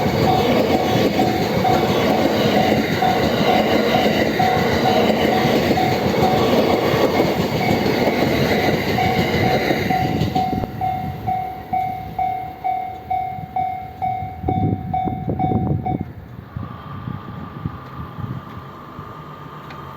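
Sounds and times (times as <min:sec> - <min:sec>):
level crossing warning bell: 0:00.0 - 0:16.1
train wheels clacking on rails: 0:00.0 - 0:16.4.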